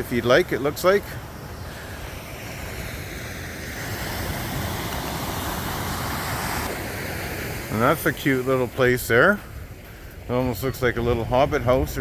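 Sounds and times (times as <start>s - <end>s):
ocean surf breaking on beach: 0.0s - 12.0s
wind on microphone: 1.6s - 12.0s.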